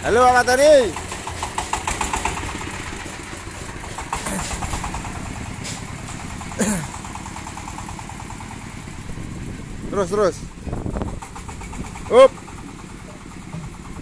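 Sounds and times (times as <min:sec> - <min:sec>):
diesel engine chugging: 0:00.0 - 0:14.0.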